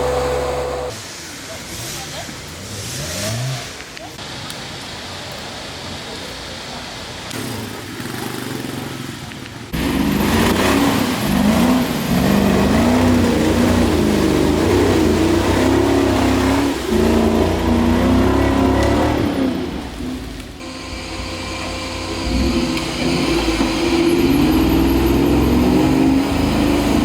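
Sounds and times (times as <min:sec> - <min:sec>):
off-road vehicle engine revving: 0:00.0 - 0:01.0, 0:01.7 - 0:03.8, 0:07.3 - 0:27.0.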